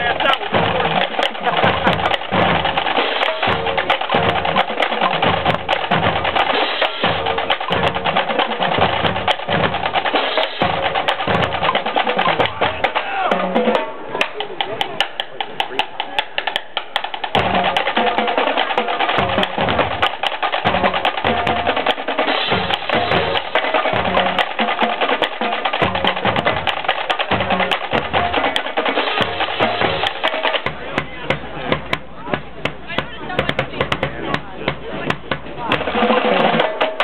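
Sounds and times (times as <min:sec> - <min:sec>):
rapid snare drum strokes: 0:00.0 - 0:37.0.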